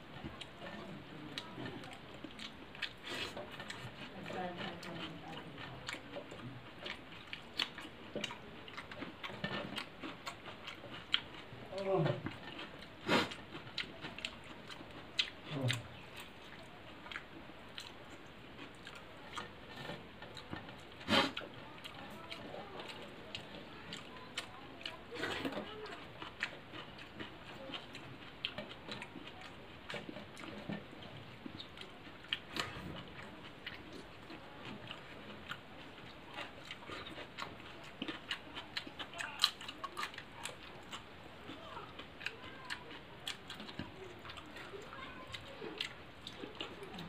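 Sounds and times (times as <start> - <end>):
chewing and lip smacks: 0.0 - 47.0.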